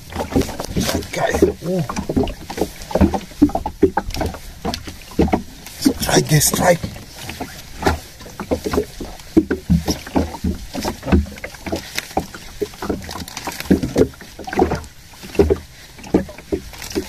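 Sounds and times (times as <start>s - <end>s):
water slapping against boat hull: 0.0s - 17.0s.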